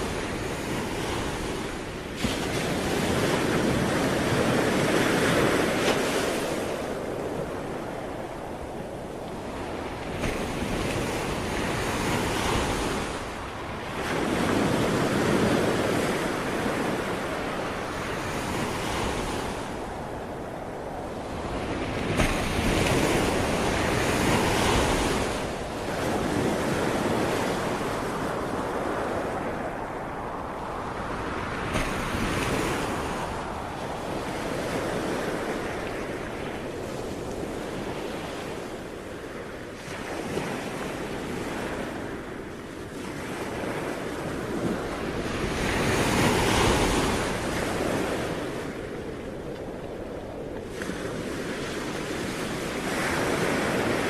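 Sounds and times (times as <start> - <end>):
ocean waves breaking on shore: 0.0 - 54.0
wind noise: 0.0 - 54.0.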